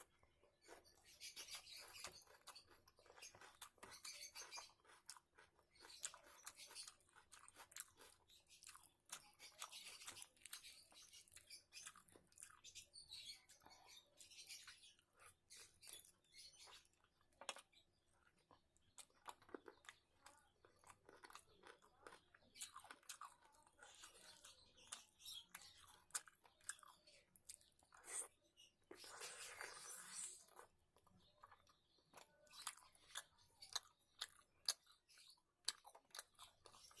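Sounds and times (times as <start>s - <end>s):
close chewing with mouth clicks: 0.0s - 37.0s
soft food crunches: 0.1s - 37.0s.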